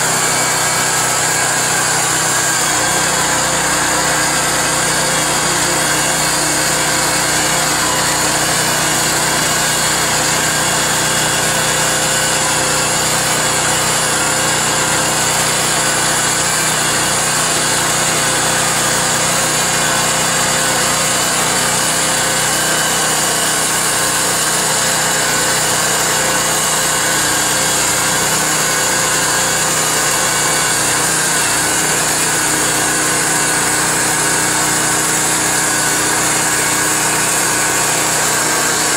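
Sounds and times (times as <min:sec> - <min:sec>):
band saw blade sawing log: 0:00.0 - 0:38.9.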